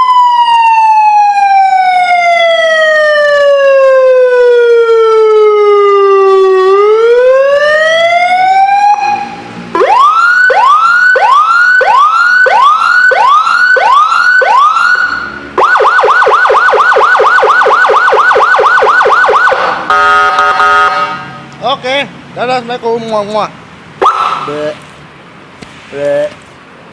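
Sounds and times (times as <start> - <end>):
electronic siren wailing and yelping: 0.0 - 21.2, 24.0 - 24.5.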